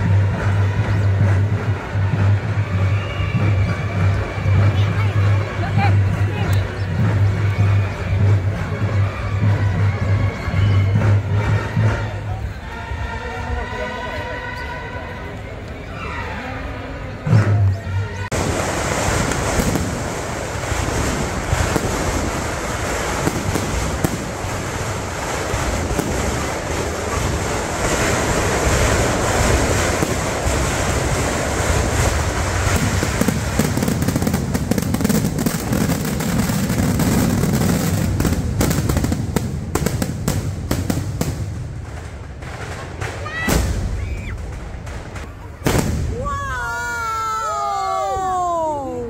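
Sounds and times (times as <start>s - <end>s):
fireworks crackling and banging: 0.0s - 12.7s, 17.3s - 48.9s.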